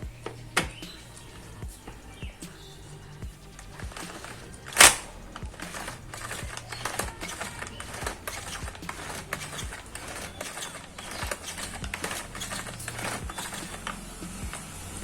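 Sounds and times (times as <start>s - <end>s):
hard plastic parts clattering: 0.0s - 15.0s.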